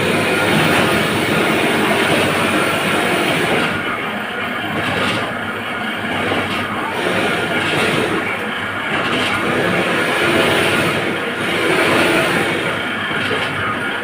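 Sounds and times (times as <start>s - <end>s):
printing machine clattering: 0.0s - 14.0s.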